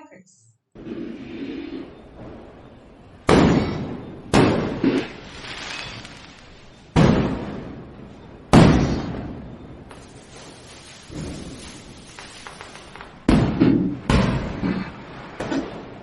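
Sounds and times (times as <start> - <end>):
firecrackers banging: 0.8 - 16.0.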